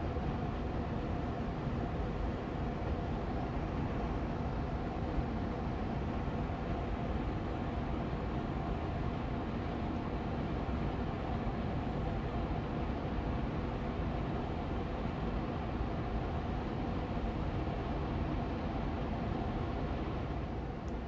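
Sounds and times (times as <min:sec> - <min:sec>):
air purifier fan hum: 0:00.0 - 0:21.0.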